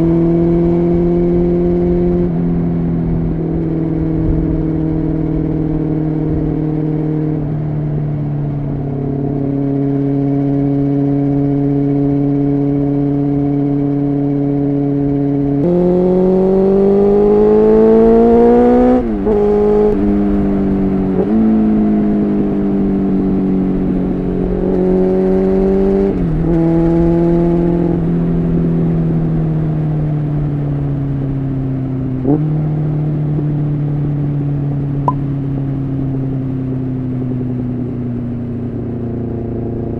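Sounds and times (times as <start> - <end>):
motorcycle engine revving: 0.0 - 7.7, 8.3 - 39.9.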